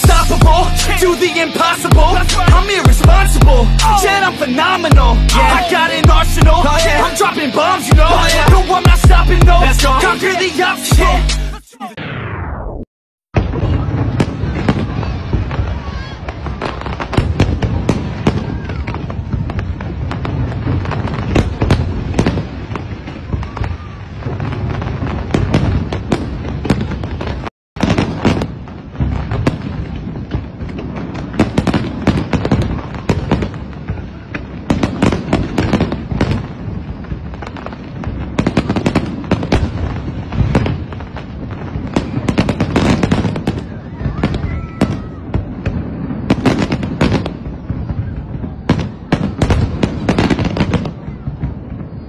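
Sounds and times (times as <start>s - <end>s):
fireworks bangs and pops: 0.0s - 12.5s, 13.3s - 52.0s.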